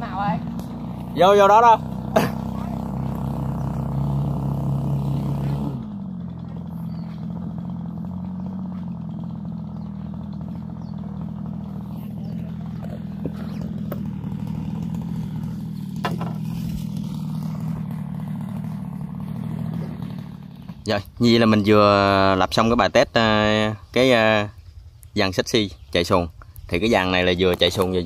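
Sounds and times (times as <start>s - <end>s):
two-stroke engine running: 0.0s - 28.0s.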